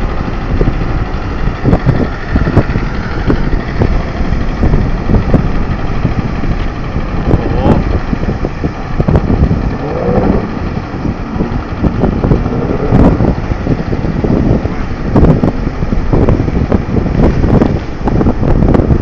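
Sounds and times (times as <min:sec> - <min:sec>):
tractor engine running: 0:00.0 - 0:19.0
wind buffeting microphone: 0:00.0 - 0:19.0.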